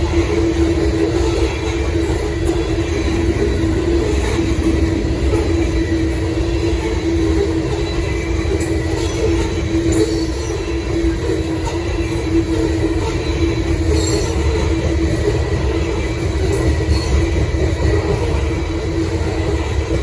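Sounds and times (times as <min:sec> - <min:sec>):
freight train rumbling: 0:00.0 - 0:20.0
wheel squeals: 0:00.8 - 0:20.0.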